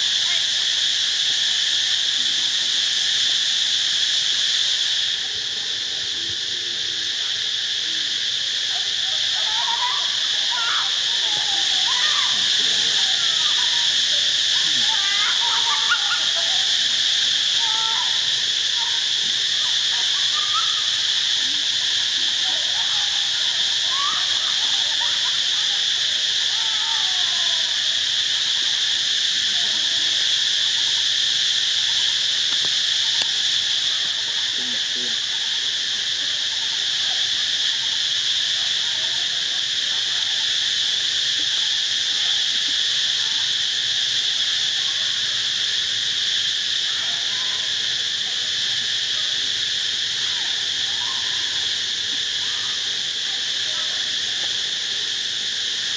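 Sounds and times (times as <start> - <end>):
insect chorus drone: 0.0 - 55.9.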